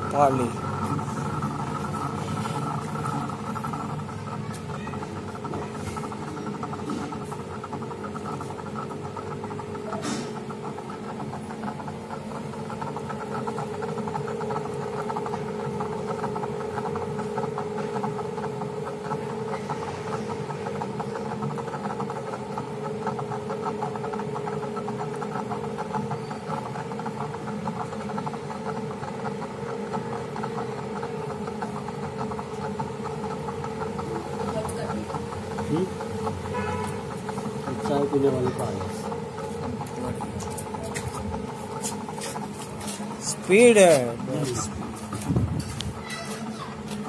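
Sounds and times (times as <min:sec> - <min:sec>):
potter's wheel motor hum: 0:00.0 - 0:47.0.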